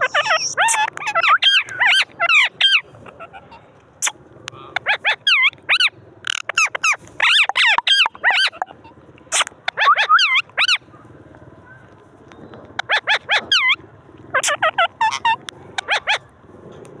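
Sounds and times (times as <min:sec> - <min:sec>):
parakeets squawking: 0:00.0 - 0:10.9, 0:12.7 - 0:16.3.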